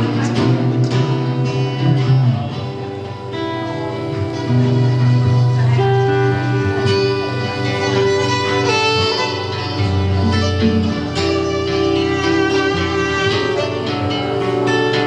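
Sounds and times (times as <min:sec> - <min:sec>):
guitar: 0:00.0 - 0:15.0
live band playing: 0:00.0 - 0:15.0.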